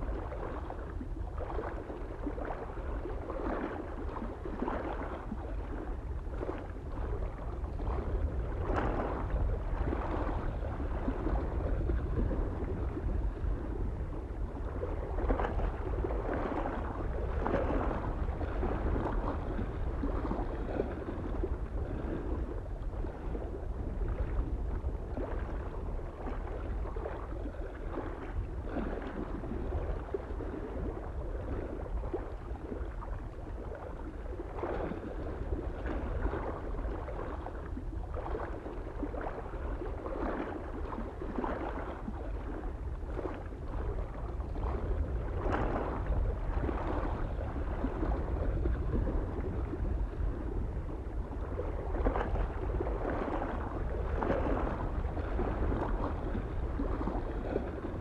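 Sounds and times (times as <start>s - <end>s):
lake waves lapping on shore: 0.0s - 58.0s
low rumble of wind: 0.0s - 58.0s.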